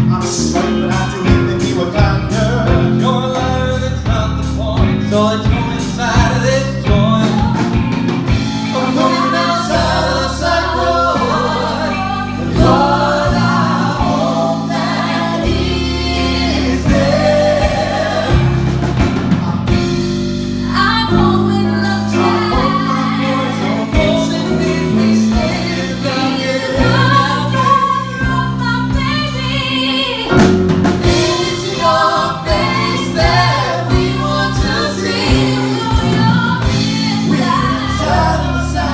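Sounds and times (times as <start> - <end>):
band with bass and drums: 0.0 - 38.9
voices singing in gospel style: 0.0 - 38.9.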